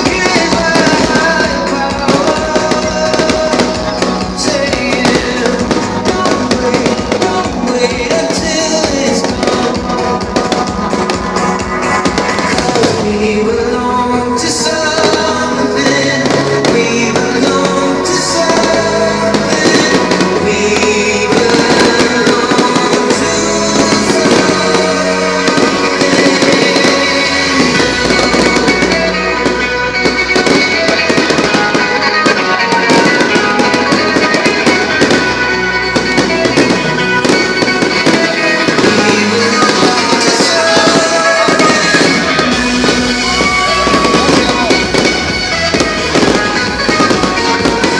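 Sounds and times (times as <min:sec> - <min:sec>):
fireworks bangs and crackles: 0:00.0 - 0:47.9
music with singing: 0:00.0 - 0:47.9.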